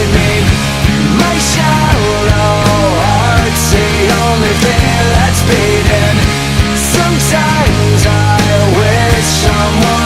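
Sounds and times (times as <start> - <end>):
rock music with drums and guitars: 0.0 - 10.0.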